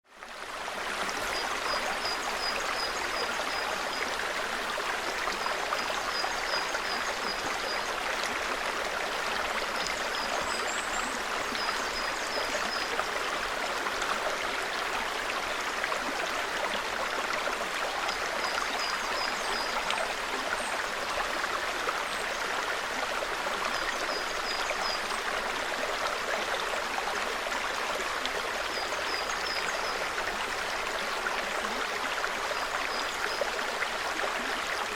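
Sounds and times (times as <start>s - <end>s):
stream babbling: 0.1s - 34.9s.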